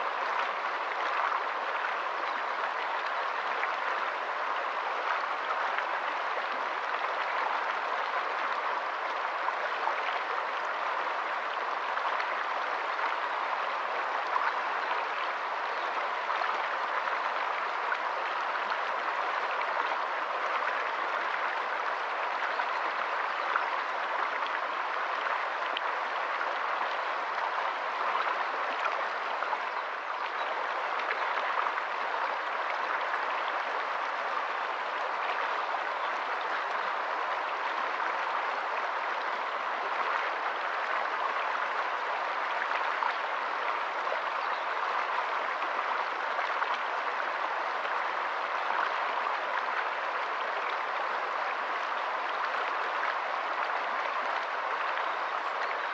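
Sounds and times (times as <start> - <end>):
stream rushing over stones: 0.0 - 55.9.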